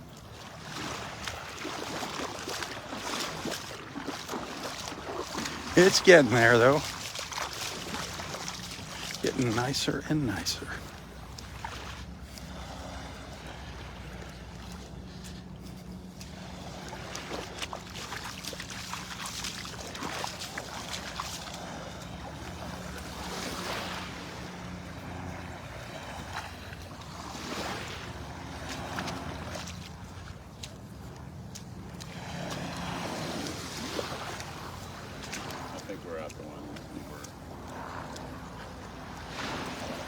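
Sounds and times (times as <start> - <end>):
small waves washing in shallows: 0.0 - 40.0
distant motor drone: 2.8 - 40.0.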